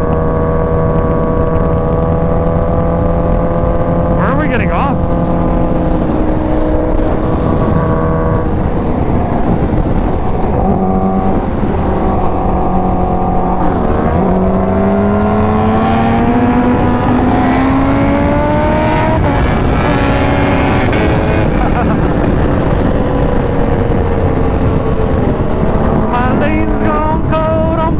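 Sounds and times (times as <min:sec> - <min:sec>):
motorcycle engine at speed: 0:00.0 - 0:27.9
wind noise: 0:00.0 - 0:27.9.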